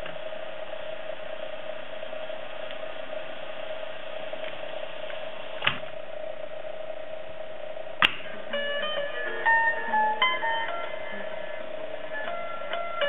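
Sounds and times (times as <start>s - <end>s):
tape reels whirring: 0.0s - 13.0s.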